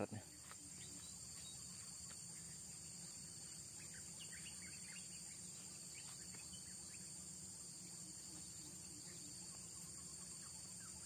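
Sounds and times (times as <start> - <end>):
faint ticks and rustles: 0.0 - 11.0
insect chorus drone: 0.0 - 11.0.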